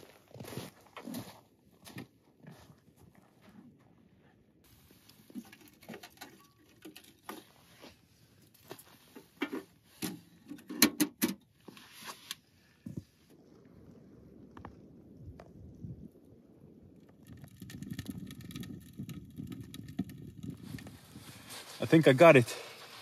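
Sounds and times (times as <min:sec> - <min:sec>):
kindling crackling in wood stove: 0:00.0 - 0:23.0.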